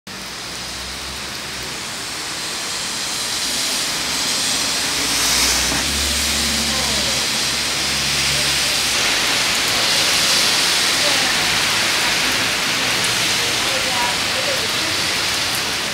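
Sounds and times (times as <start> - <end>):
rain falling: 0.1 - 15.9.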